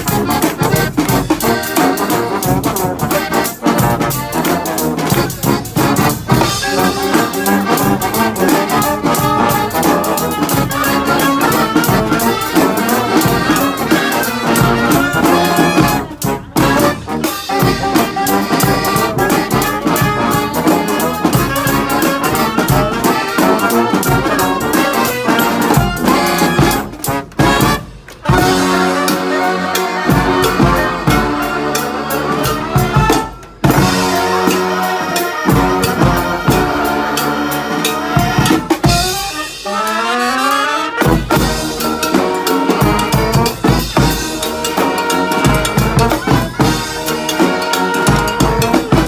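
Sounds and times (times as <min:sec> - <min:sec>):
steady drum beat: 0:00.0 - 0:39.7, 0:41.0 - 0:49.0
trumpets and trombones playing: 0:00.0 - 0:49.0.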